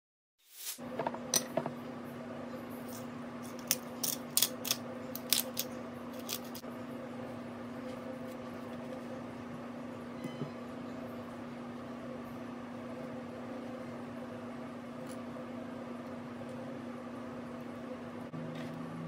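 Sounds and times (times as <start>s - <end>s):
low electrical hum: 0.8s - 19.0s.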